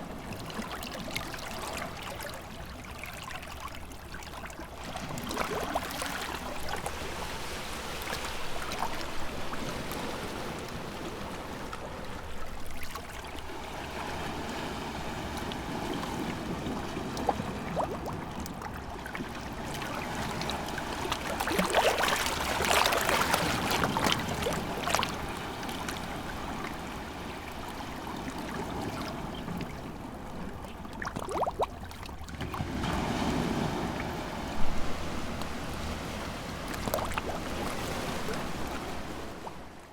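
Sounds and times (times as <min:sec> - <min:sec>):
small sea waves lapping shore: 0:00.0 - 0:39.9.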